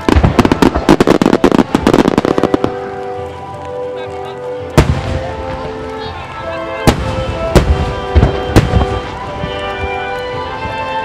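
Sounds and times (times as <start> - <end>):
fireworks cracking bursts: 0.0 - 11.0
music: 0.0 - 11.0.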